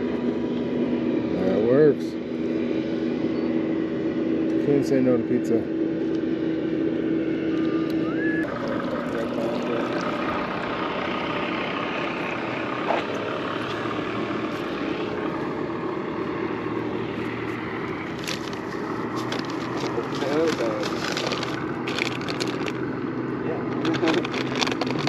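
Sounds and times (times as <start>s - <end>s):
outboard motor running: 0.0s - 25.0s
wind: 0.0s - 25.0s.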